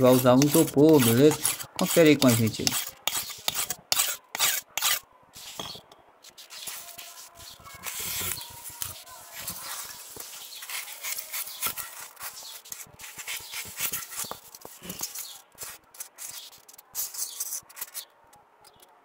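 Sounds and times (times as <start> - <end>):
knife sawing through styrofoam: 0.0 - 5.6, 6.4 - 16.4.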